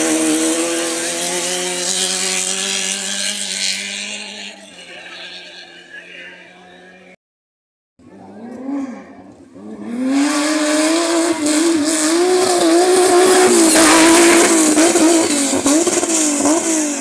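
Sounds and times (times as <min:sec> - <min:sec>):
buggy engine racing past: 0:00.0 - 0:07.1, 0:08.1 - 0:17.0.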